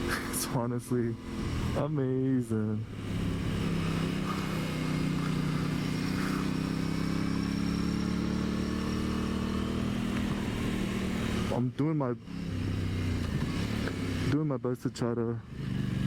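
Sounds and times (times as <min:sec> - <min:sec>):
motorcycle engine running: 0:00.0 - 0:14.4, 0:15.1 - 0:16.0.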